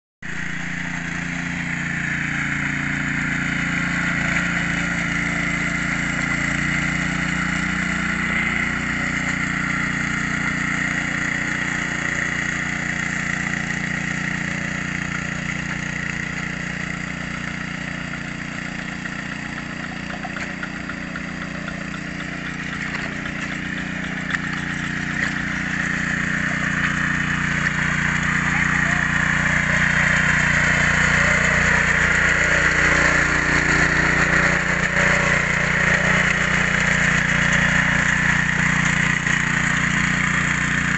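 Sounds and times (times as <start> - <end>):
small petrol engine running: 0.2 - 40.9.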